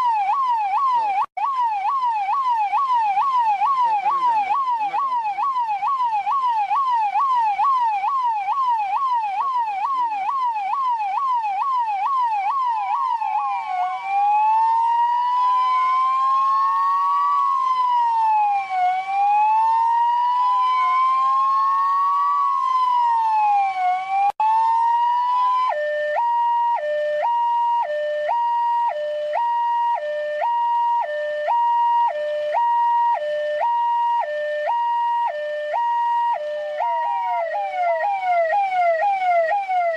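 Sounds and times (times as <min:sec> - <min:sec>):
electronic police siren: 0:00.0 - 0:39.9.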